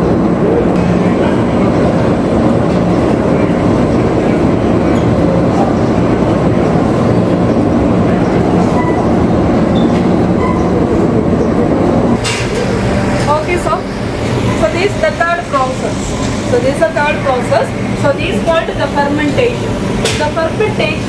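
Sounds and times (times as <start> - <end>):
processing machinery running: 0.0 - 21.0.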